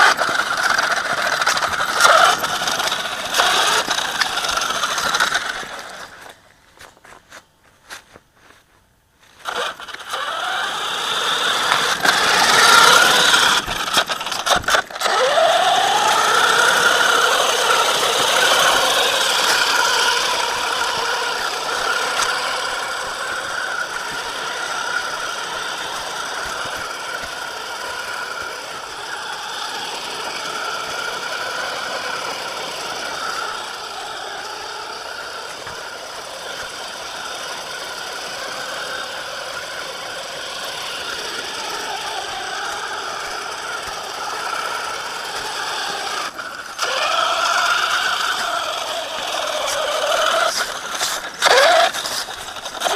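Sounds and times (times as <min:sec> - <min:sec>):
small nitro engine buzzing: 0:00.0 - 0:06.5, 0:09.3 - 0:52.9.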